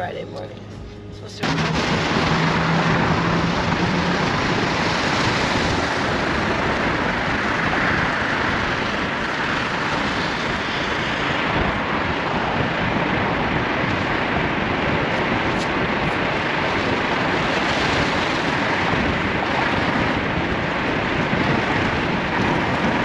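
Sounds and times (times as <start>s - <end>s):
tyres hissing on wet road: 1.4s - 23.0s.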